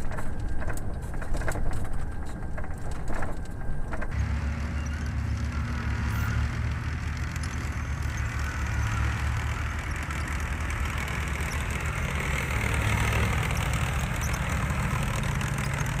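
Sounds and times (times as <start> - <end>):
heavy engine running: 0.0 - 16.0
tracks rattling: 0.0 - 16.0.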